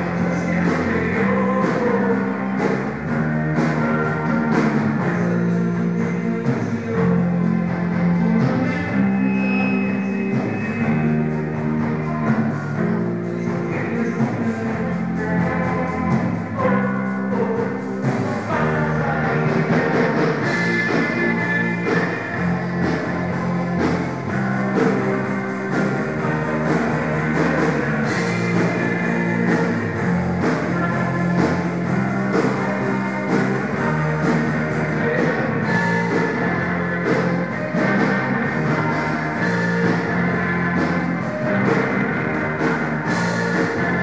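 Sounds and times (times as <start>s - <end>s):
rock band playing live: 0.0s - 44.0s
sustained electric guitar notes: 0.0s - 44.0s.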